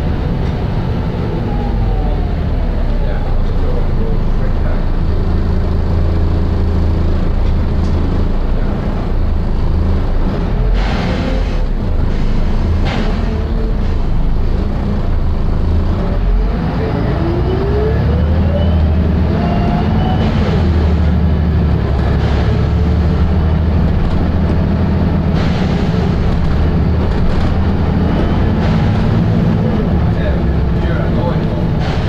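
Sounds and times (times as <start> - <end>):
diesel bus engine drone: 0.0 - 32.0.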